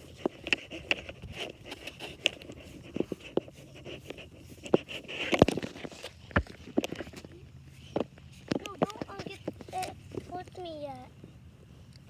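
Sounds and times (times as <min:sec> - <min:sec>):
small clicks taps and scrapes: 0:00.0 - 0:11.0.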